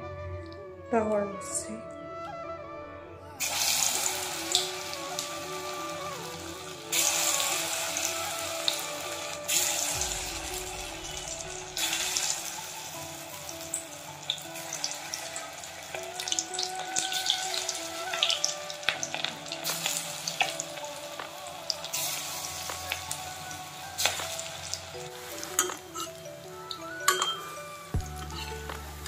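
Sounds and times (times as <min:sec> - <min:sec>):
background music simple melody: 0:00.0 - 0:29.0
batter deep-frying in oil: 0:03.4 - 0:29.0.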